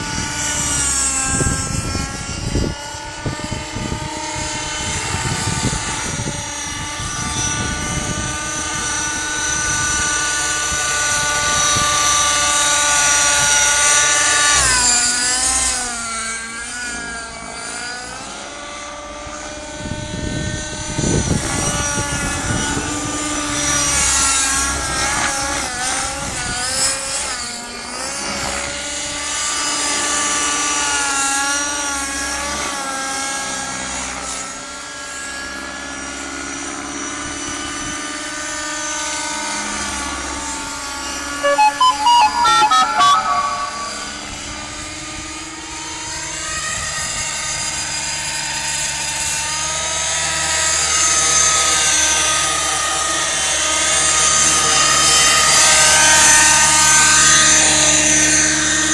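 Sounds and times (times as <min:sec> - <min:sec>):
model helicopter engine whine: 0:00.0 - 0:42.3, 0:43.8 - 0:58.9
helicopter rotor noise: 0:00.0 - 0:58.9.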